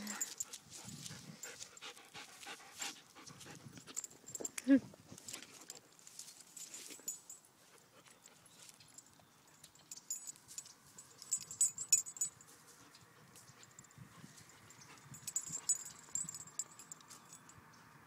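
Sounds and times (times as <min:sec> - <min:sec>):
light metallic jingling: 0:00.0 - 0:18.0.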